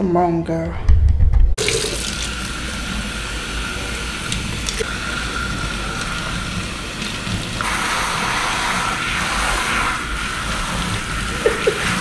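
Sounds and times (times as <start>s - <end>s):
water running from tap: 1.6s - 12.0s.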